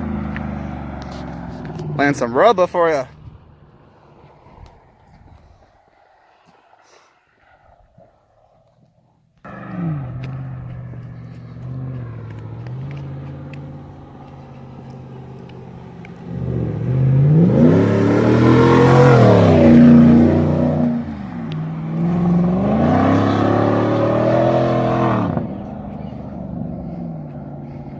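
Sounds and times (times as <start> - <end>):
car engine revving: 0.0 - 4.3, 9.5 - 27.9.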